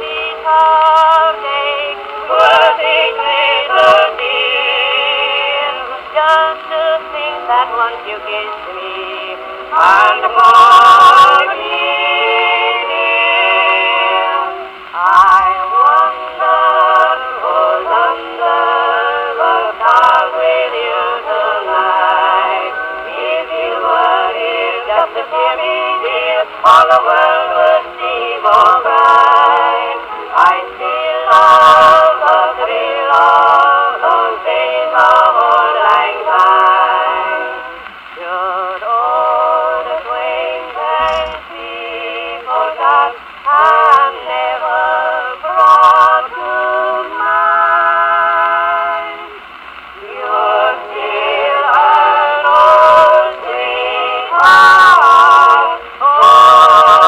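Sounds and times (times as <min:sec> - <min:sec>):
phonograph record melody: 0:00.0 - 0:57.0.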